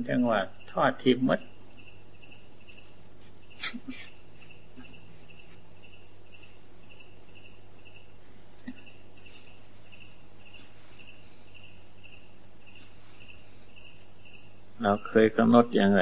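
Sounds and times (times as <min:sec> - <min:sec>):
cricket chirping: 0:00.0 - 0:16.0
recording hiss and hum: 0:00.0 - 0:16.0.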